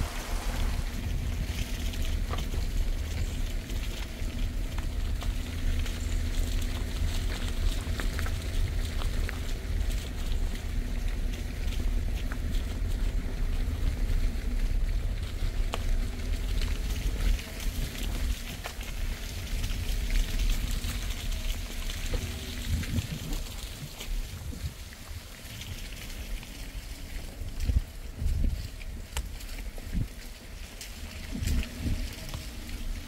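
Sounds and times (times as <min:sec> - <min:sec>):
faint steady hum: 0:00.0 - 0:33.0
wind buffeting microphone: 0:00.0 - 0:33.0.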